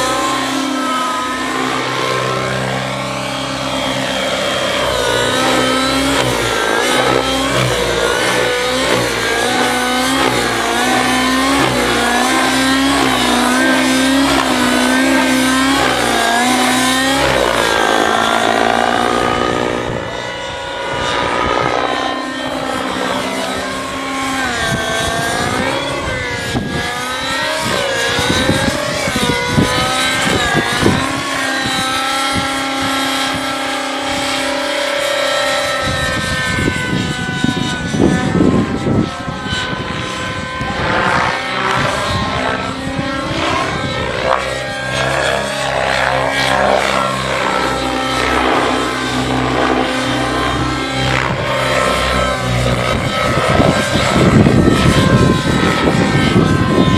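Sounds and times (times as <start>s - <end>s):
model helicopter engine and rotor: 0.0s - 56.9s.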